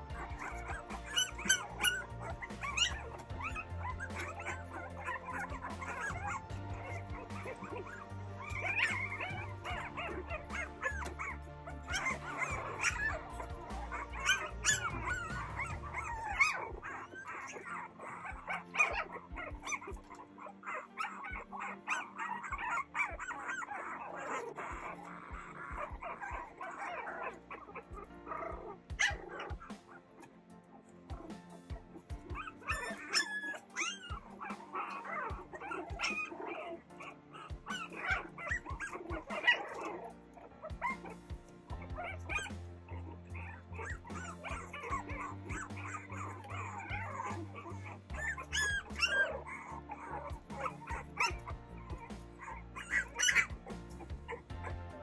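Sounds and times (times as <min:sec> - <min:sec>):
background music: 0:00.0 - 0:55.0
puppies whimpering and yipping: 0:00.0 - 0:55.0.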